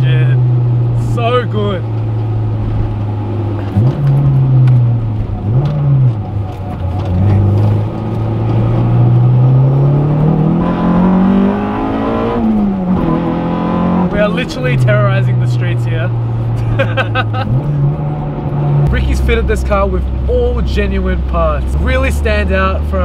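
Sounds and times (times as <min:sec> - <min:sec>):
car engine revving inside cabin: 0:00.0 - 0:23.0.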